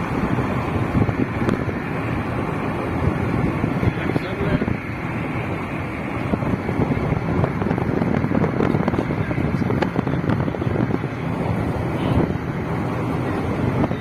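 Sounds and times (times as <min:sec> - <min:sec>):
moving vehicle rumble: 0:00.0 - 0:14.0
wind buffeting microphone: 0:00.0 - 0:14.0.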